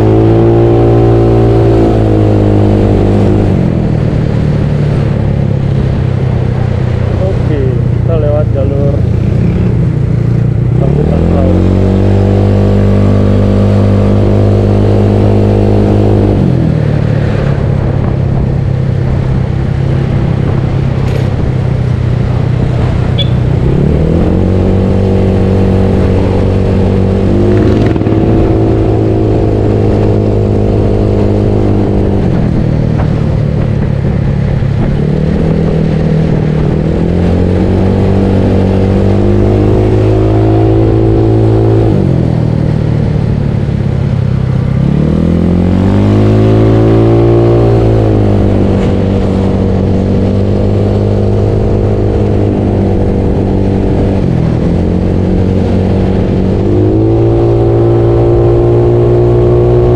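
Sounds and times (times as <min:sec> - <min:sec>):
wind rumbling on microphone: 0:00.0 - 0:59.9.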